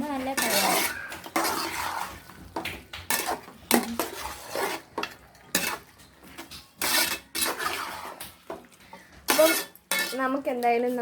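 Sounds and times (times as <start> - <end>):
utensil scraping a pot: 0.0 - 10.6.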